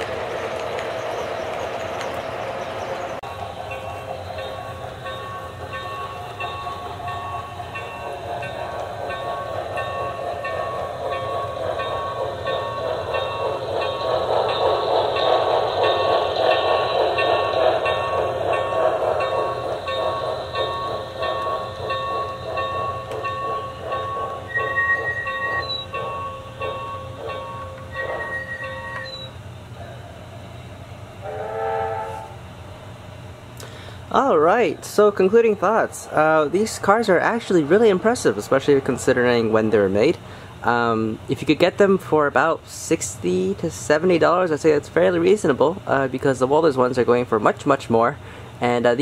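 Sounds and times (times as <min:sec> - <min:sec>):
model train wheels rolling on track: 0:00.0 - 0:29.3, 0:34.1 - 0:49.0
model steam locomotive chuffing: 0:00.0 - 0:32.3, 0:33.6 - 0:49.0.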